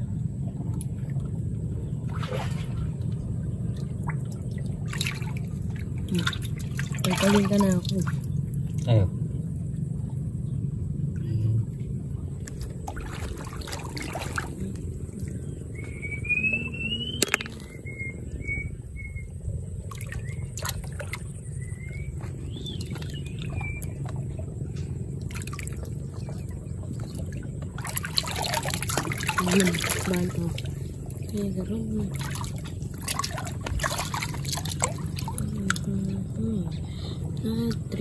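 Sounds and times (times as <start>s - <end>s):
muddy water sloshing: 0.0s - 38.0s
small splashes: 0.5s - 10.3s, 11.1s - 18.0s, 19.8s - 38.0s.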